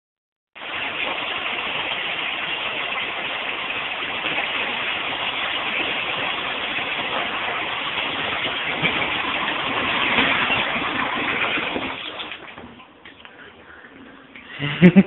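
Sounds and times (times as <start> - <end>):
water running into bathtub: 0.6 - 15.0.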